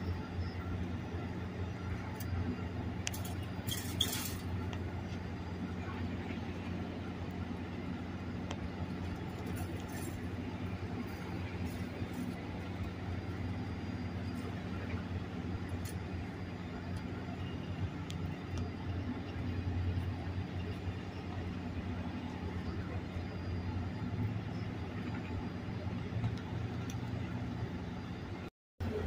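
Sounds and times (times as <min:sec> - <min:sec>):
diesel train engine idling: 0:00.0 - 0:29.0.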